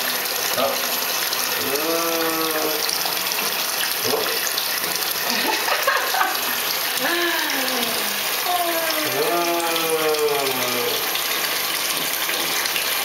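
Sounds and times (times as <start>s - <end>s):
bathwater splashing: 0.0s - 13.0s.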